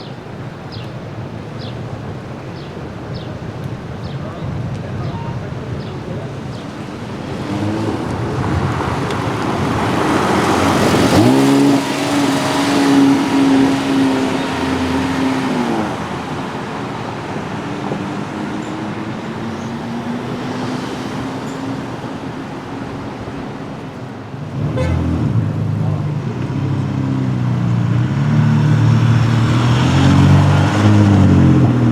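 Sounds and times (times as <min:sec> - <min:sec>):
street traffic: 0:00.0 - 0:31.9
sports car engine passing: 0:03.2 - 0:31.9.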